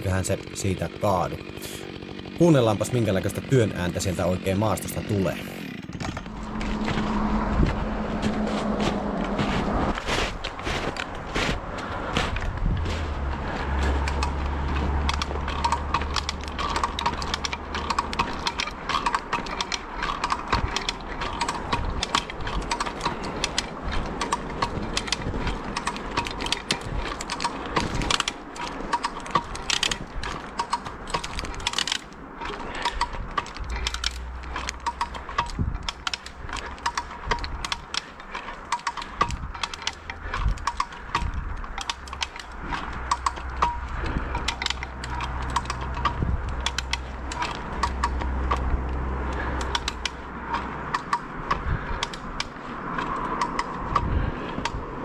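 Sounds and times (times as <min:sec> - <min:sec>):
heavy laboured breathing: 0:00.0 - 0:02.5, 0:04.9 - 0:55.0
rope and pulleys clicking: 0:00.0 - 0:55.0
low rumble: 0:06.0 - 0:38.4, 0:39.2 - 0:52.0.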